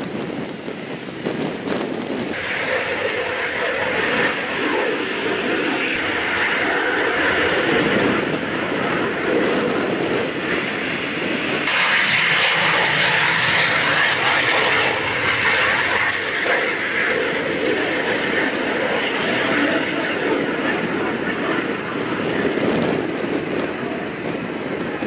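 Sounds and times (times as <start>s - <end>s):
jet engine rushing: 0.0s - 25.0s.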